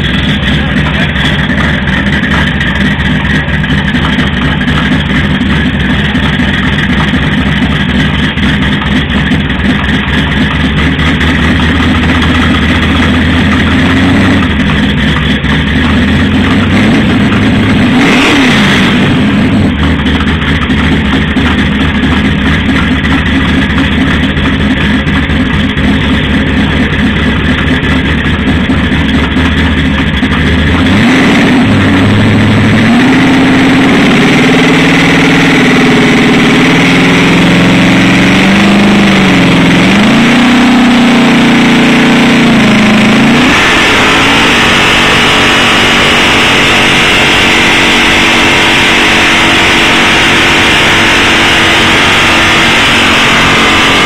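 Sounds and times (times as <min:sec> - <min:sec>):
pickup engine revving: 0:00.0 - 0:54.0.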